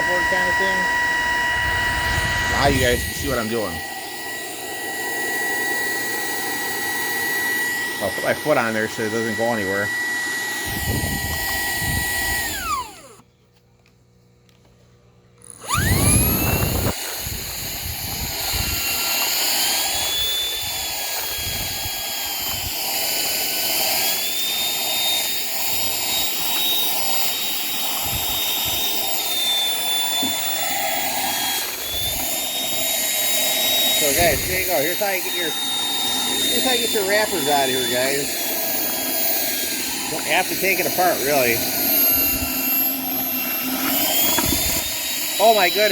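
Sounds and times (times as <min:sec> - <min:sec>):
vacuum motor whine: 0:00.0 - 0:45.9.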